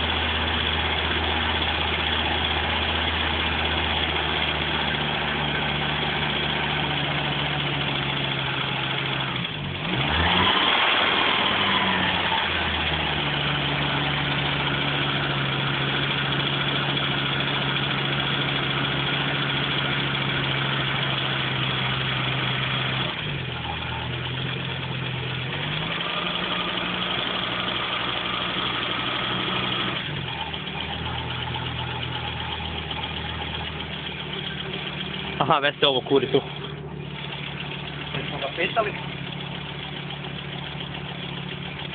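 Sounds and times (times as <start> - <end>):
car engine idling: 0.0 - 41.9
engine revving: 0.0 - 41.9.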